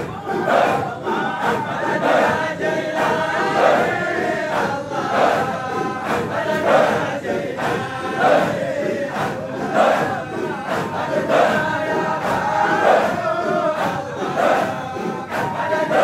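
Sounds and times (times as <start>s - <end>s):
crowd of men chanting: 0.0s - 16.0s.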